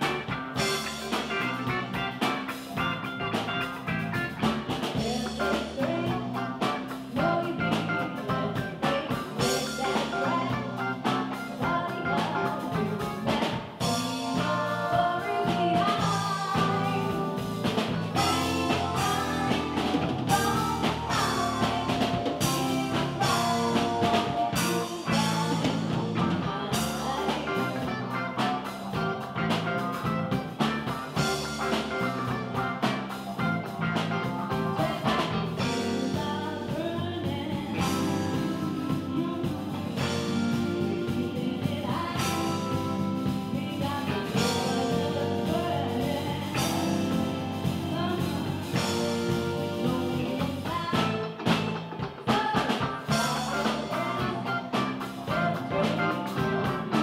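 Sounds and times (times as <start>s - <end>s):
live funk band playing: 0.0s - 57.0s
woman singing: 4.8s - 33.0s, 33.9s - 57.0s.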